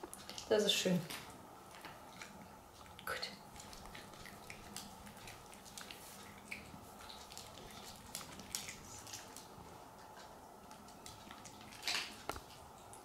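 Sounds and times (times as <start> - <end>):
dog chewing dry kibble: 0.0 - 13.0.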